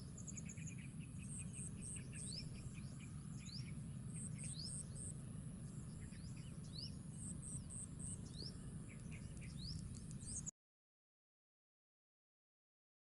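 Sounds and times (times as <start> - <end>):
birds calling: 0.0 - 10.5
low background rumble: 0.0 - 10.5.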